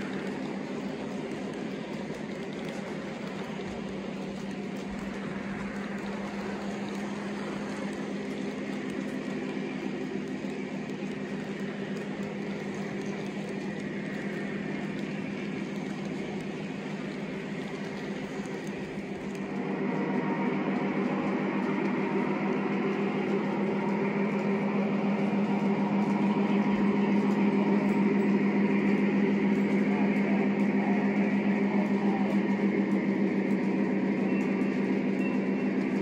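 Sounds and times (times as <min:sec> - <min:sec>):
model train wheels clattering on rails: 0:00.0 - 0:36.0.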